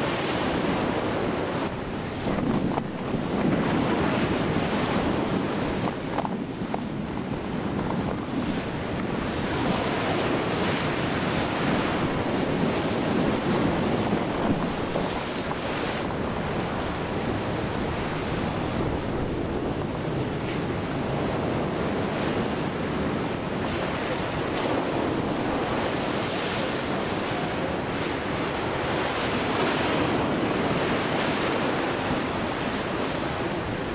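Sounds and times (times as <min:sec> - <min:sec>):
ocean surf: 0:00.0 - 0:33.9
wind buffeting microphone: 0:00.0 - 0:33.9.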